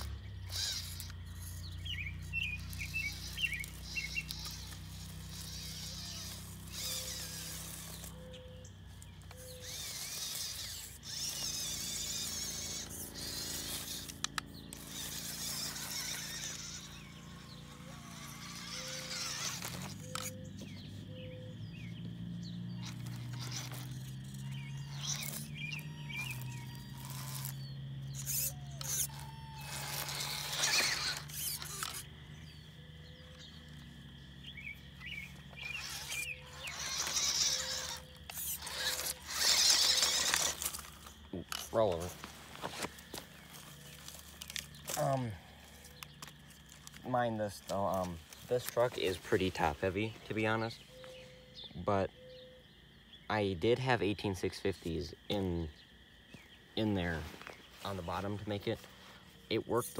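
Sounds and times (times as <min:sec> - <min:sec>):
toy truck electric motor whining: 0:00.0 - 0:51.6
birds chirping: 0:00.0 - 0:59.9.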